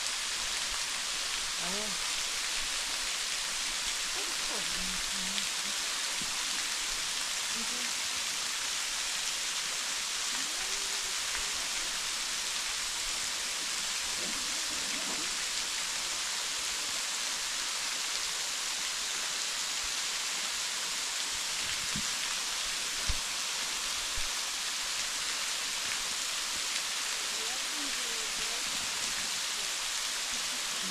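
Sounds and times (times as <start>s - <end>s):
waterfall splashing: 0.0s - 30.9s.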